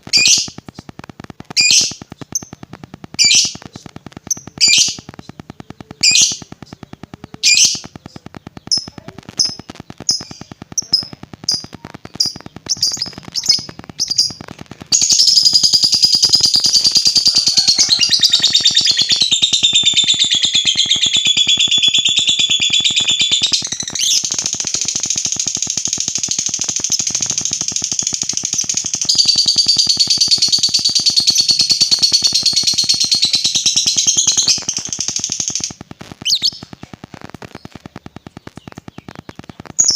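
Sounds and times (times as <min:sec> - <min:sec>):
lovebird chirping and trilling: 0:00.0 - 0:39.9.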